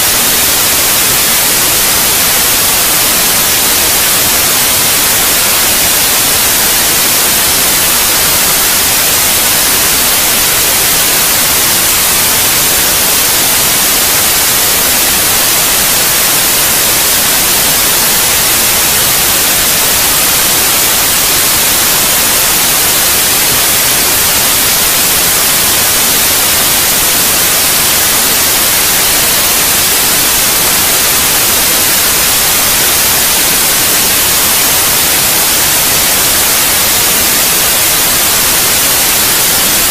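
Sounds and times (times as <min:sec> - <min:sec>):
white noise static: 0:00.0 - 0:39.9.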